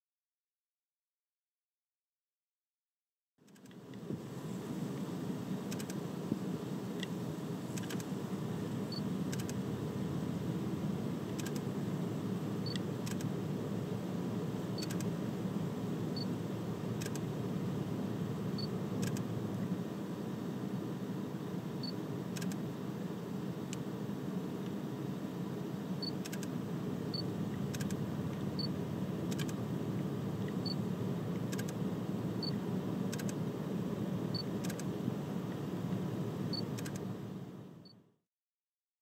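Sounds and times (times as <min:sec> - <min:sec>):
low rumbling background: 0:03.8 - 0:37.9.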